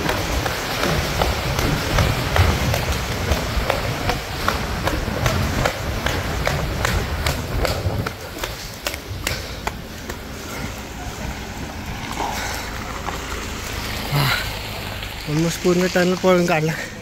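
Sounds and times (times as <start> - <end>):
running footsteps: 0.0 - 14.4
steady low rumble: 0.0 - 15.4.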